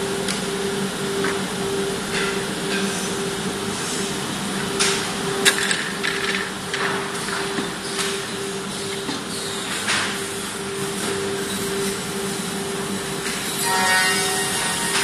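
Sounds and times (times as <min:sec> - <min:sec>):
machine hum with pulsing tone: 0:00.0 - 0:15.0.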